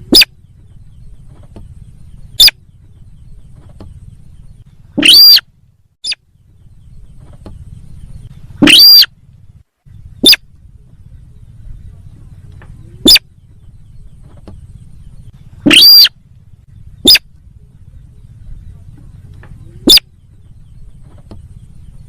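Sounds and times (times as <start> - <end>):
low steady hum: 0.0 - 22.0
recorded bird call: 0.0 - 22.0.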